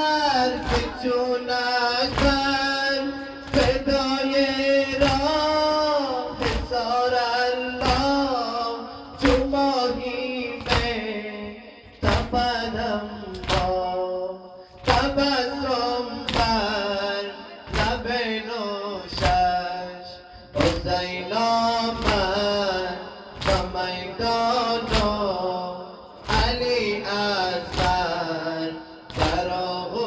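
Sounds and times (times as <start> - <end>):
man chanting into a microphone: 0.0 - 30.0.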